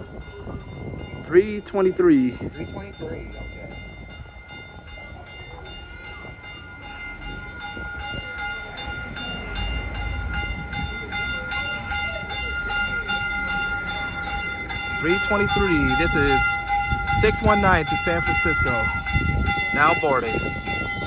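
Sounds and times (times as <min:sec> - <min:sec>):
steady ringing bell strikes: 0:00.0 - 0:21.0
train low rumble: 0:00.0 - 0:21.0.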